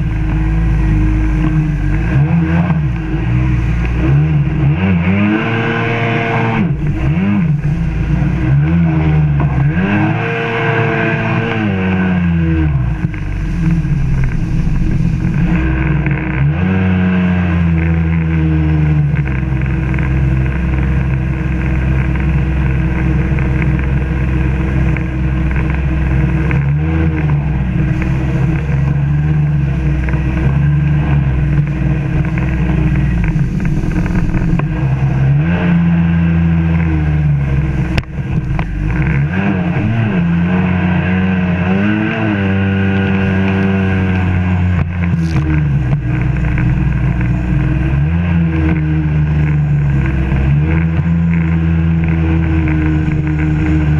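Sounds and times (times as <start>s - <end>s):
watercraft engine revving: 0.0s - 53.9s.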